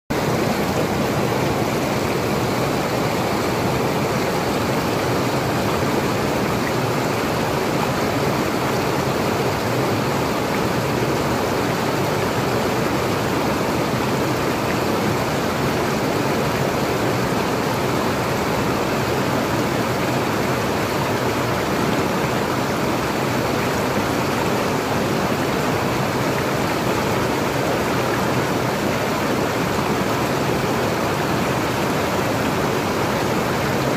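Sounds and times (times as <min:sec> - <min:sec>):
stream rushing over boulders: 0:00.1 - 0:33.9.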